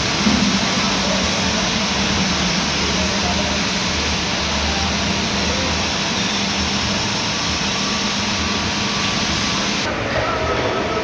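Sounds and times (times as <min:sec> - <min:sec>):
milling machine running: 0:00.0 - 0:09.9.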